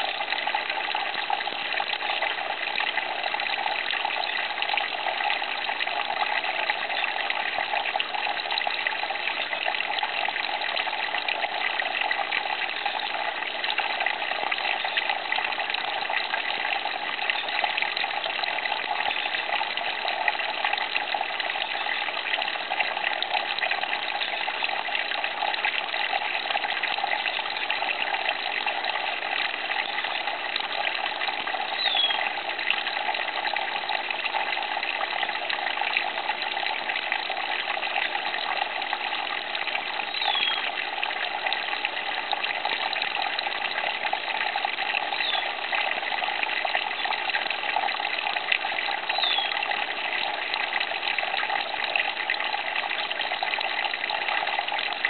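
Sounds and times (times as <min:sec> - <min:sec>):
water pouring into a tank: 0:00.0 - 0:55.0.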